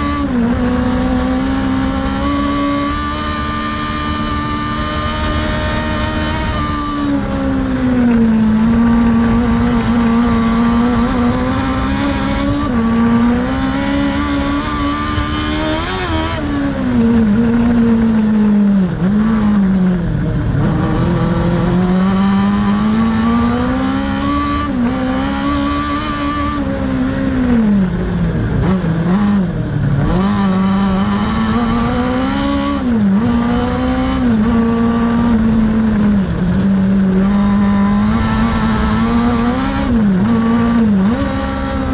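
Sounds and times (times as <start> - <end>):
racing car engine revving: 0.0 - 41.9.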